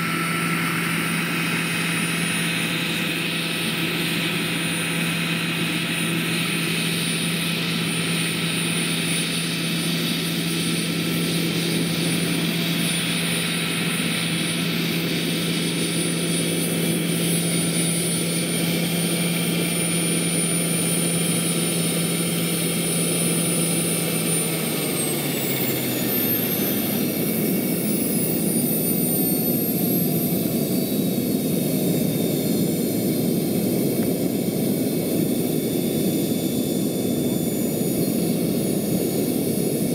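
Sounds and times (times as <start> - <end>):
model helicopter turbine whine: 0.0 - 39.9
rushing rotor noise: 7.3 - 39.9.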